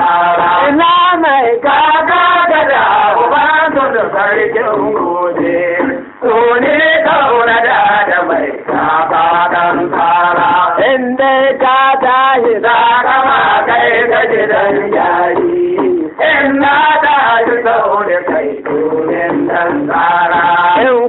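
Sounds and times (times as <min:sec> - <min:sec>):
man singing: 0:00.0 - 0:21.0.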